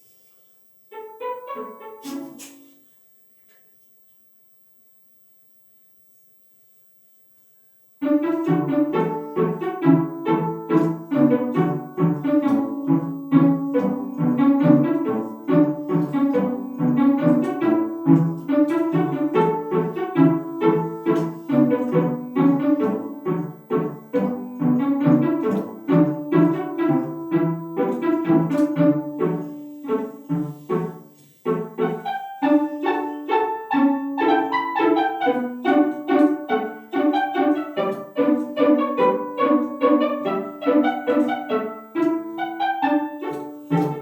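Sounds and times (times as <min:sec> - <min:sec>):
piano and strings instrumental: 0:00.9 - 0:02.7, 0:08.0 - 0:44.0.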